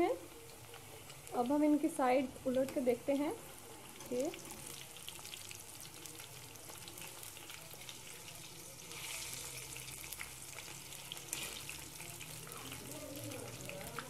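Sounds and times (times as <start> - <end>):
eggplant slices deep-frying in oil: 0.0 - 14.0.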